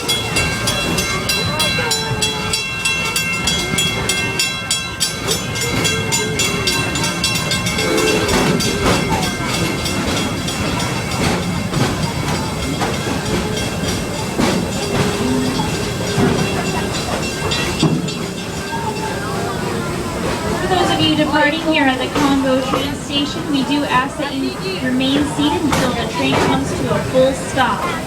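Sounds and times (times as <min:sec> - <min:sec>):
train wheels clattering on rails: 0:00.0 - 0:28.0.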